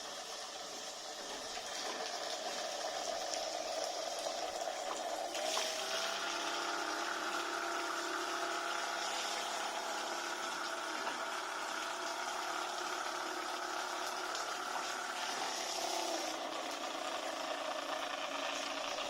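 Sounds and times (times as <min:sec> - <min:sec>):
electric water pump whining: 0:00.0 - 0:19.0
water noise: 0:00.0 - 0:19.0.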